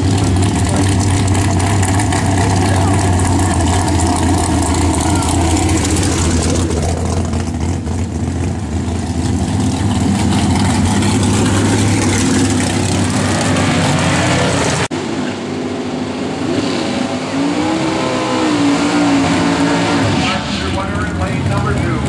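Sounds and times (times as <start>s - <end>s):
engine revving: 0.0s - 22.0s
race car engines idling: 0.0s - 22.0s.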